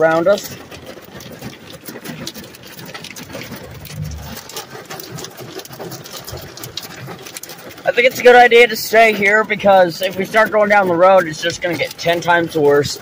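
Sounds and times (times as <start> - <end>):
hail and rain on car roof: 0.0 - 13.0.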